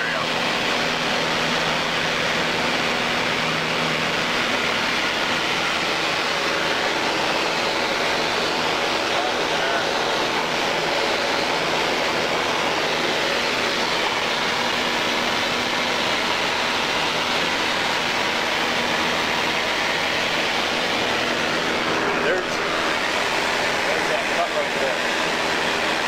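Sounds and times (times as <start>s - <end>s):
propeller aircraft cabin drone: 0.0s - 26.0s.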